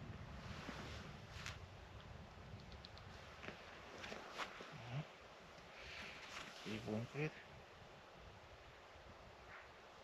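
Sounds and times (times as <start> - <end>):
faint wind rumble on microphone: 0.0 - 10.0.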